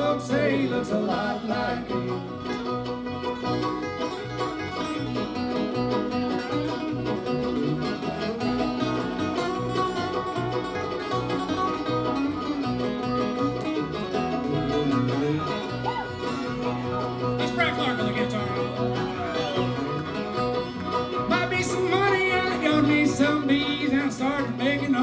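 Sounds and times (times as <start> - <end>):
banjo picking: 0.0 - 25.0
guitar picking: 0.0 - 25.0.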